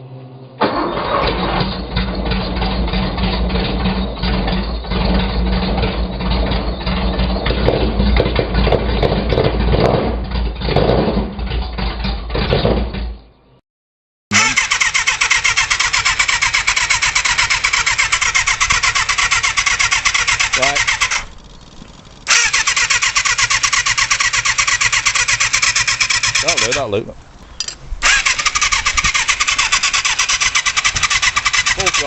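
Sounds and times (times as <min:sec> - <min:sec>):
engine with fast even pulse: 0:00.0 - 0:13.0, 0:14.3 - 0:32.0
big engine running unevenly: 0:00.0 - 0:13.2, 0:16.2 - 0:28.6, 0:30.6 - 0:32.0.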